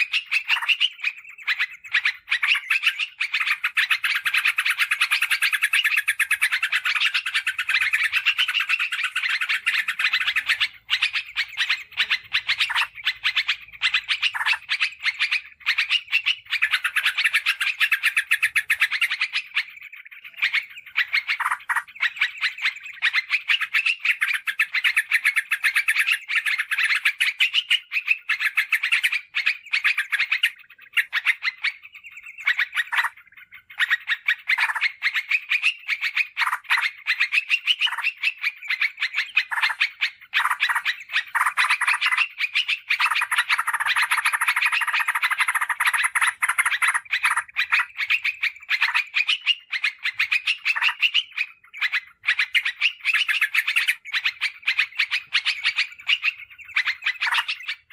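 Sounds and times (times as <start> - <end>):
bird chirping song: 0.0 - 57.9.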